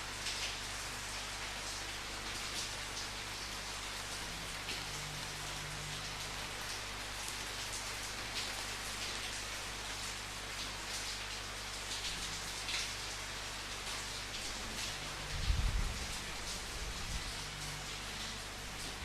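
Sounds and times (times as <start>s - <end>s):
raindrops striking a surface: 0.0s - 19.0s
steady rain: 0.0s - 19.0s.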